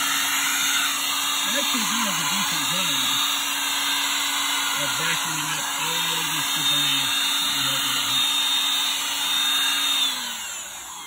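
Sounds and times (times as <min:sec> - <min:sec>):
leaf blower motor whine: 0:00.0 - 0:11.0.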